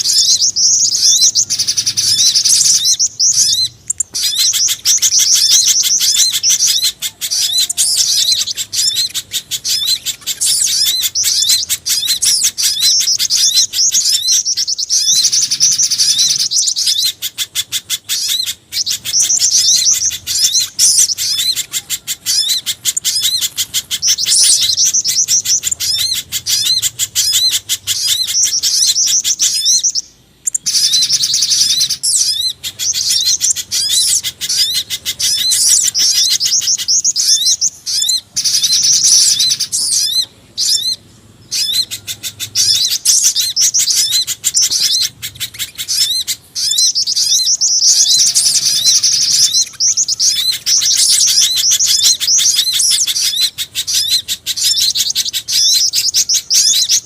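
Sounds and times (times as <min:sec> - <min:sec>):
small birds chirping rapidly: 0:00.0 - 0:57.0.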